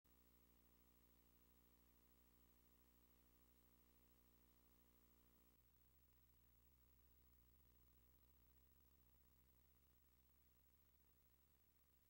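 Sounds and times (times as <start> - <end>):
faint low hum: 0.1 - 12.0.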